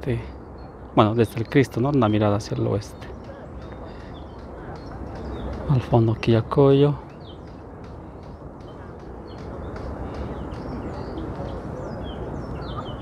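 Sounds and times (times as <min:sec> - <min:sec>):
rushing outdoor background noise: 0:00.0 - 0:13.0
small birds chirping: 0:00.0 - 0:13.0.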